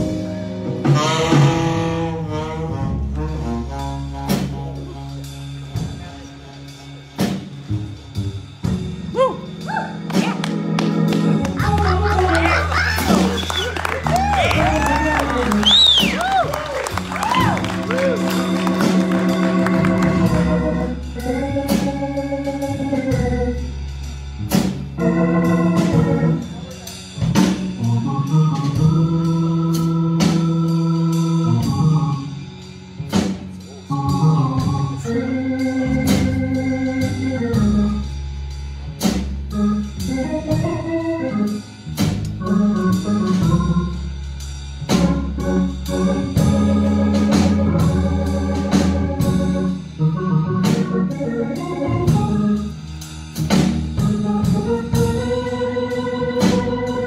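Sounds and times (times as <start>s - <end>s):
blues organ solo: 0.0s - 57.0s
drums keeping time: 0.0s - 57.0s
keyboard bass line: 0.0s - 57.0s.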